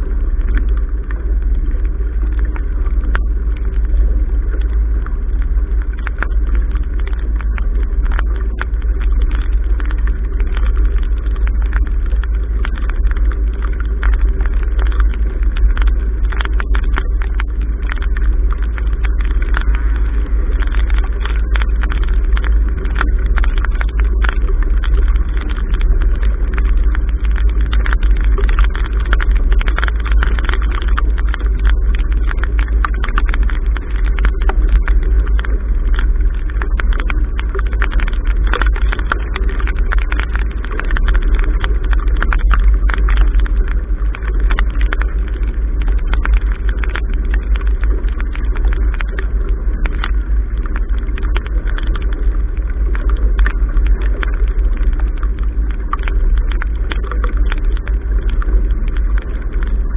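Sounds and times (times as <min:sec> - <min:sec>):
rain and spray ticking: 0:00.0 - 0:59.9
water rushing along hull: 0:00.0 - 0:59.9.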